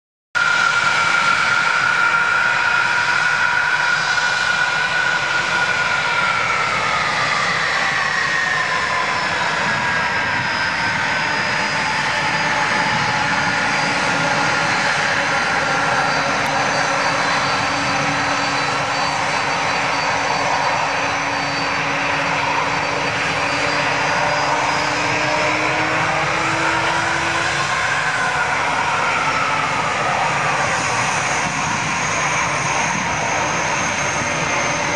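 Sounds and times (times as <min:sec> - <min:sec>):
jet aircraft taxiing roar: 0:00.4 - 0:34.9.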